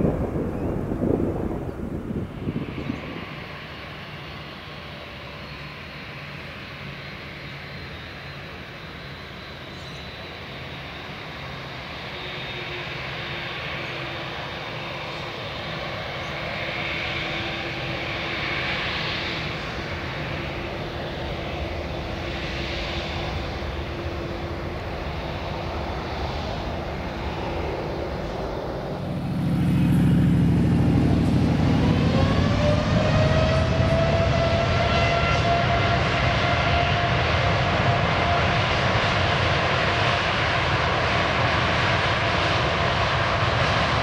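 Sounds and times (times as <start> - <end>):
jet engines humming: 0.0 - 44.0
jet engines spooling up: 0.0 - 44.0.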